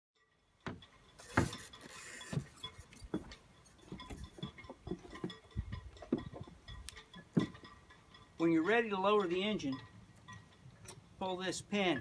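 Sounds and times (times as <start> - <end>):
metal fittings clinking: 0.8 - 11.1.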